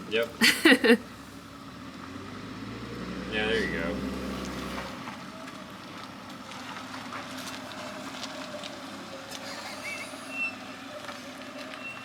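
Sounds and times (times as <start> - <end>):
car engine moving off: 0.0 - 12.0.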